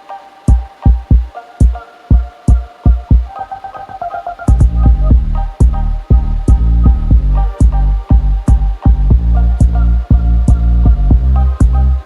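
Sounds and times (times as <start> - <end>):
music with heavy bass beat: 0.4 - 3.4, 4.3 - 12.0.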